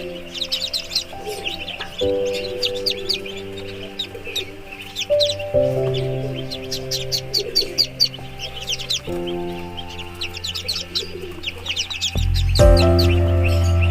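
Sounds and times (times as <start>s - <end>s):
background music of sustained chords: 0.0s - 13.9s
ducklings peeping: 0.0s - 13.9s.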